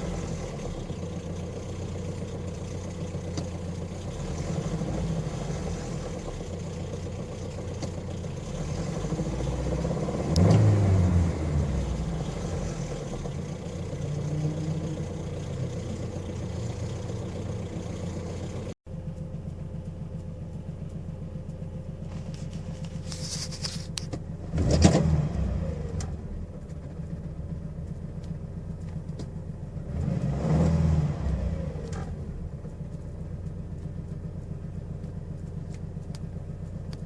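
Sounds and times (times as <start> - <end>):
engine idling and revving: 0.0 - 37.0.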